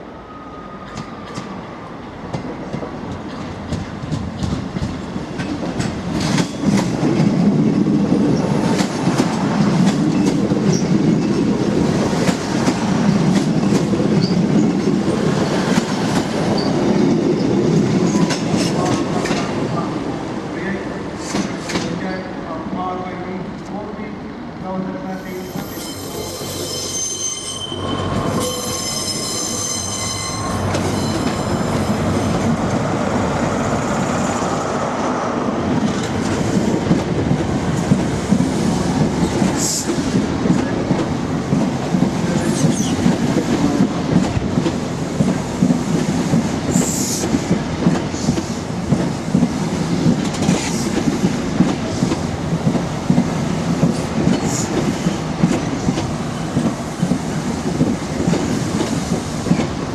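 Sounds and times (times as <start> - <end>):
train wheels rumbling on rail: 0.8 - 59.9.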